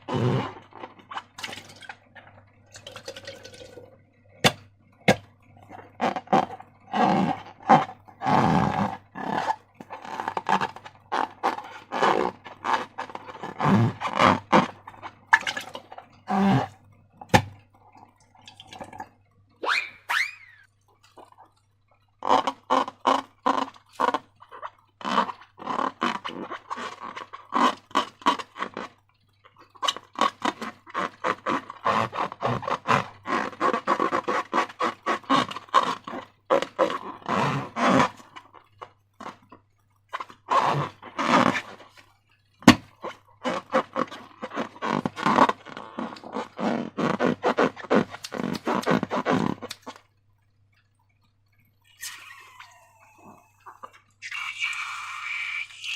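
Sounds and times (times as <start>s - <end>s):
wet slime squishing: 4.4s - 55.9s.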